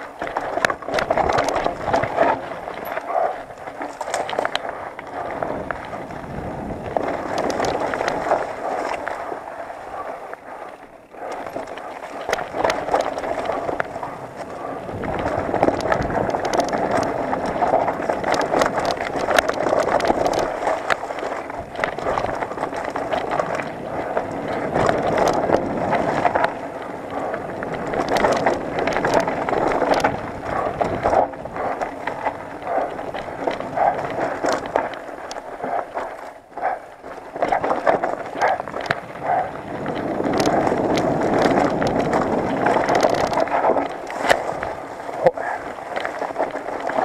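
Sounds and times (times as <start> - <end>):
bike rattling and clicking: 0.0 - 47.0
bike tyres over dirt and stones: 0.0 - 47.0
wind noise on microphone: 0.0 - 47.0.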